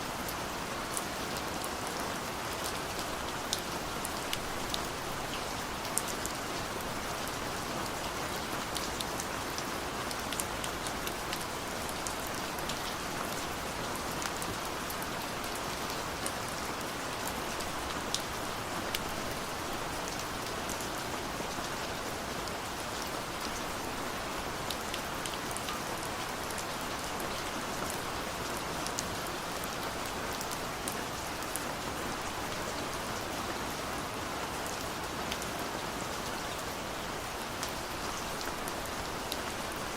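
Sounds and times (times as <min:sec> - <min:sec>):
steady rain falling: 0:00.0 - 0:39.9
raindrops ticking on surfaces: 0:00.1 - 0:39.9.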